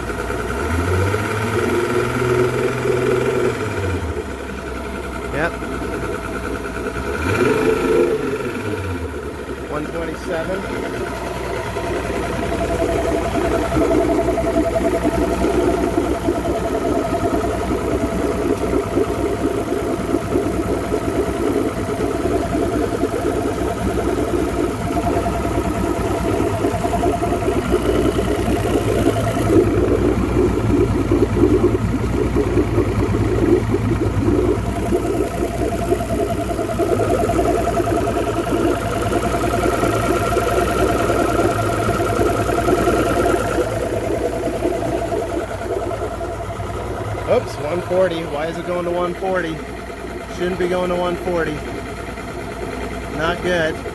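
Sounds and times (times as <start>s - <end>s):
outboard motor idling: 0.0s - 53.9s.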